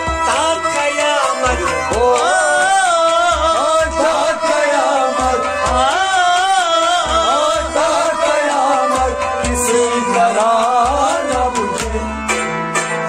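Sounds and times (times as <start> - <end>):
steady low drum beat: 0.0 - 0.7, 1.4 - 12.6
man singing: 0.0 - 12.5
bowed string instrument: 0.0 - 13.0
plucked lute: 0.0 - 13.0.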